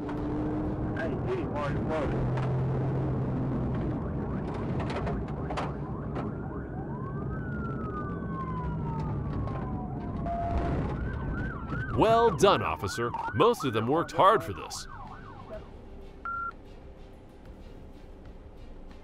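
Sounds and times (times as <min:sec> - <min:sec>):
police siren wailing: 0:00.0 - 0:15.7
road and engine noise: 0:00.0 - 0:19.0.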